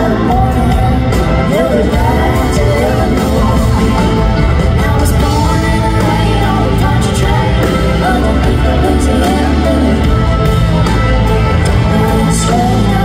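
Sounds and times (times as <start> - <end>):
bass line: 0.0 - 13.0
guitars: 0.0 - 13.0
woman singing: 0.0 - 13.0.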